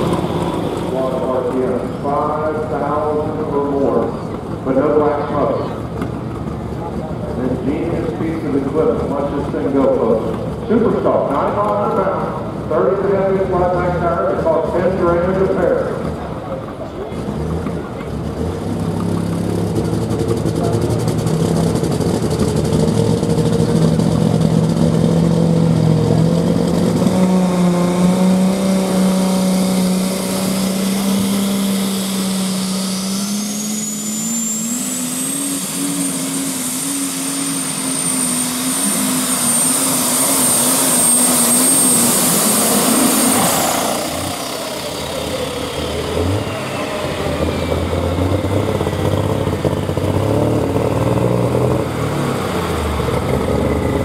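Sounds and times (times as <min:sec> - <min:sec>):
high turbo whine: 0:00.0 - 0:54.0
second tractor engine: 0:00.0 - 0:54.0
tractor engine under full load: 0:00.0 - 0:54.0.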